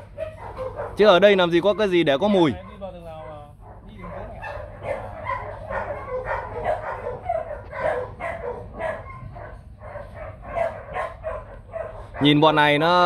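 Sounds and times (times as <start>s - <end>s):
dogs barking and yipping: 0.0s - 12.6s.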